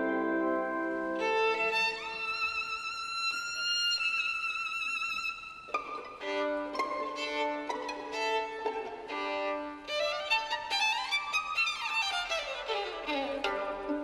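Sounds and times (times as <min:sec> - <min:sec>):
solo violin: 0:00.0 - 0:14.0.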